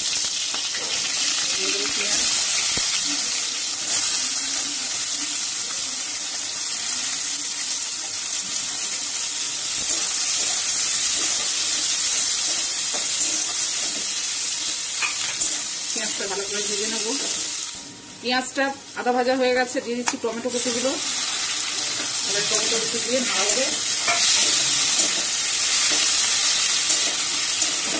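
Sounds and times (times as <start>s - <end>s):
onions sizzling in hot oil: 0.0s - 27.9s.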